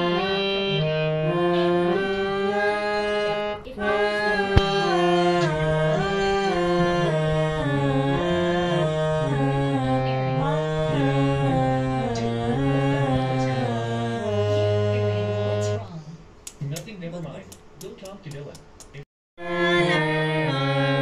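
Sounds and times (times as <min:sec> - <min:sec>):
harmonium playing slow melody: 0:00.0 - 0:15.8, 0:19.4 - 0:21.0.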